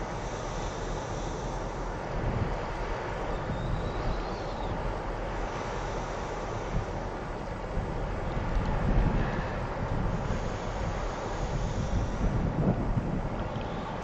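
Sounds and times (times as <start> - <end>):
ferry engines rumbling: 0.0 - 14.0
wind buffeting microphone: 0.0 - 14.0.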